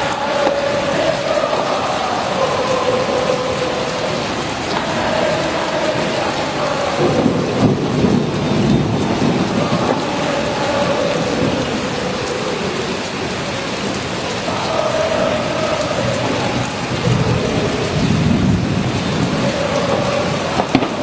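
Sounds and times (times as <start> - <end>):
thunder rumbling: 0.0 - 21.0
torrential rain pouring: 0.0 - 21.0.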